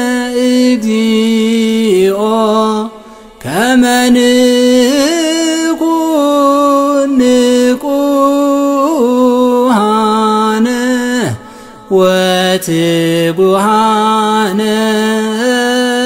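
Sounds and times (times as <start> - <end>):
liturgical chanting: 0.0 - 16.0.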